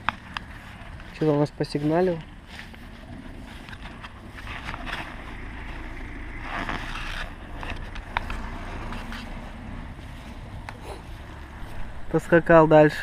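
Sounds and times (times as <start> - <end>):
distant car engine rumble: 0.0 - 13.0.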